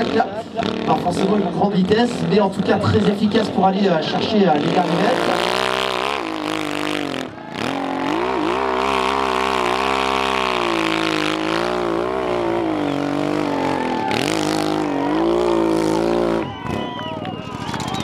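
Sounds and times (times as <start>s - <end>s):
dirt bike engine revving hard: 0.0s - 17.3s.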